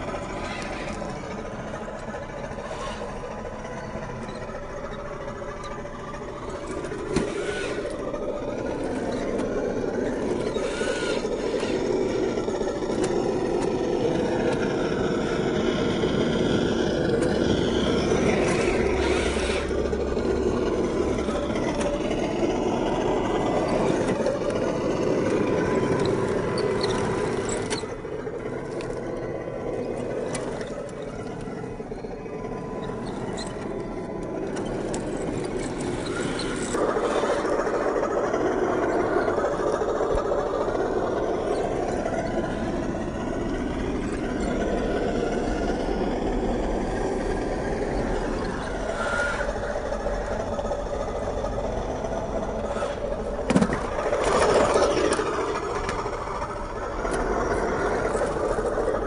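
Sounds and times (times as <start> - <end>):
electric motor and drivetrain whirring: 0.0 - 59.0.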